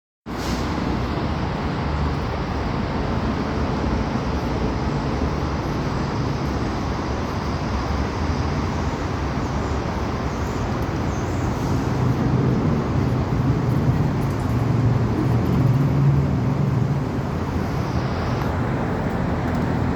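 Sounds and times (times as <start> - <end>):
low outdoor rumble: 0.8 - 19.9.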